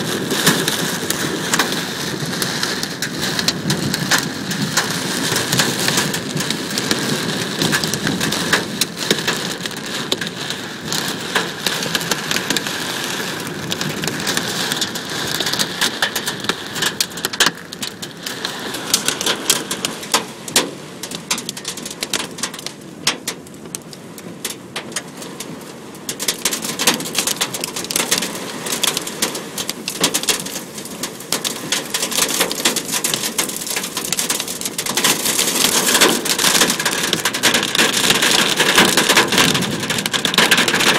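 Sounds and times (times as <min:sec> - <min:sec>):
rain hissing: 0:00.0 - 0:22.6, 0:26.1 - 0:40.9
hail pelting truck body: 0:00.0 - 0:25.1, 0:26.0 - 0:40.9.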